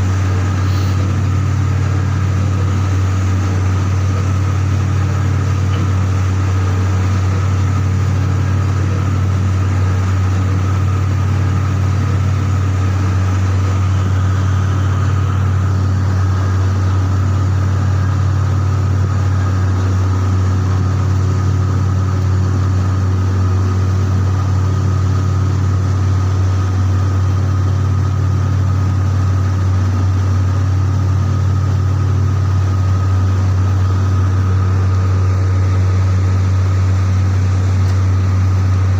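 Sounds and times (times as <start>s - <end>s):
faint steady whine: 0.0s - 38.9s
industrial machinery low hum: 0.0s - 38.9s.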